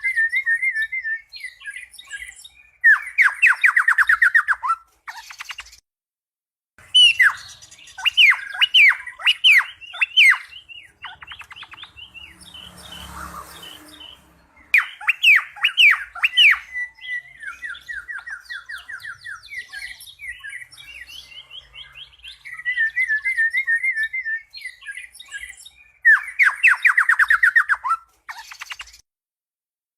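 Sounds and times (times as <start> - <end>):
songbird whistling and trilling: 0.0 - 5.8, 6.8 - 29.0.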